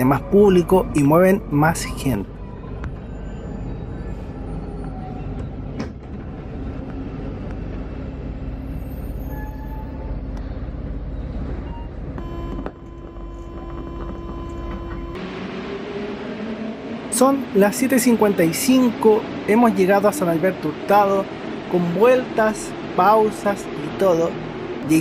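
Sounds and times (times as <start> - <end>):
train rumble in tunnel: 0.0 - 25.0.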